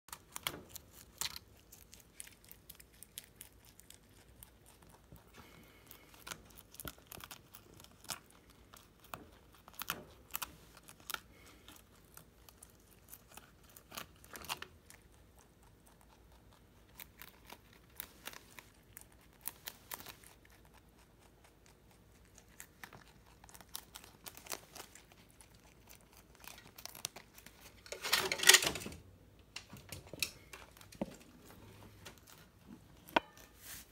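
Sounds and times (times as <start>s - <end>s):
rabbit chewing leaf: 0.1s - 28.8s, 29.5s - 33.9s.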